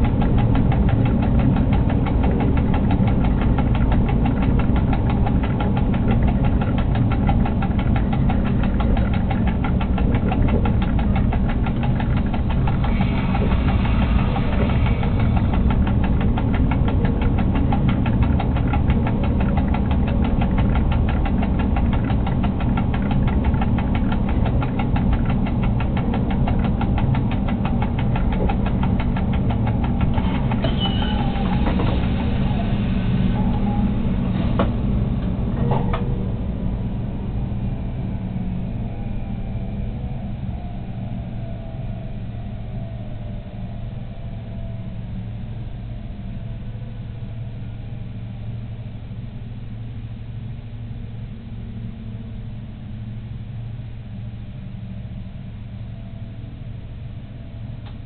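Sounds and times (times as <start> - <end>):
locomotive cab drone: 0.0 - 58.0.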